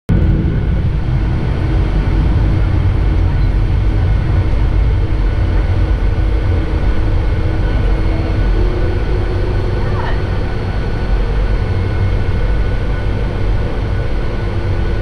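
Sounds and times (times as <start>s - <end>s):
airliner cabin engine rumble: 0.1s - 15.0s
faint steady hum: 0.1s - 15.0s.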